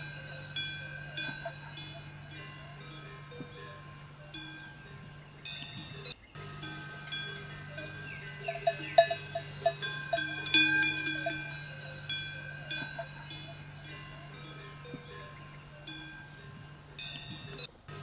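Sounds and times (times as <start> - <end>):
metal bells clinking: 0.0 - 18.0
steady low hum: 0.0 - 18.0.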